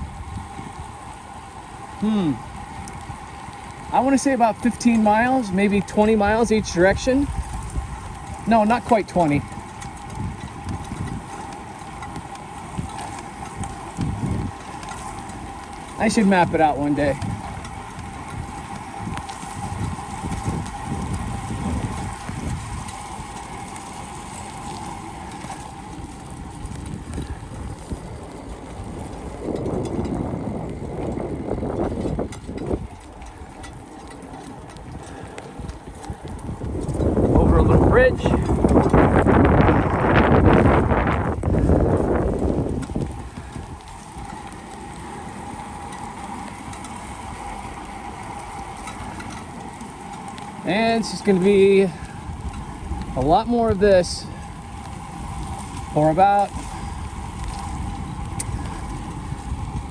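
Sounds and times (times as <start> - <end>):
bicycle tyre and road noise: 0.0 - 59.9
faint steady whine: 0.0 - 59.9
rain: 0.0 - 59.9
wind buffeting microphone: 0.0 - 59.9.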